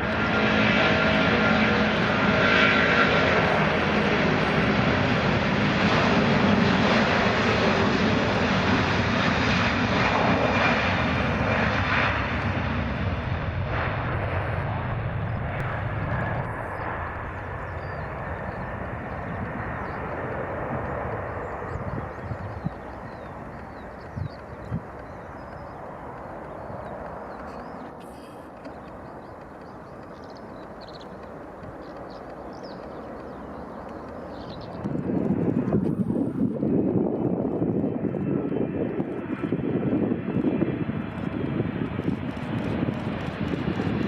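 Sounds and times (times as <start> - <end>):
jet airliner engines whining: 0.0 - 44.0.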